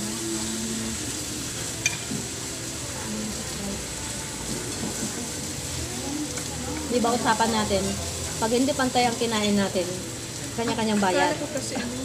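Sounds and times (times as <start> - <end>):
meat sizzling on hot plate: 0.0 - 12.0.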